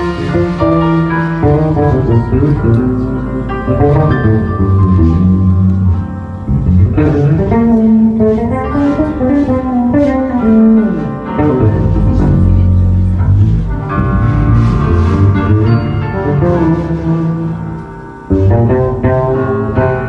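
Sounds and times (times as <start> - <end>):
band playing: 0.0 - 20.0
bass guitar: 0.0 - 20.0.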